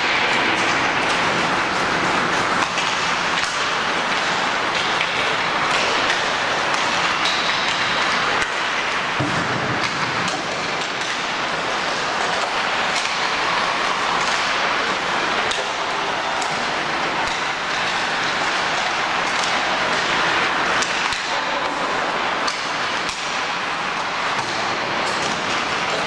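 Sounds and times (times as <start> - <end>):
ice hockey arena noise: 0.0 - 26.0.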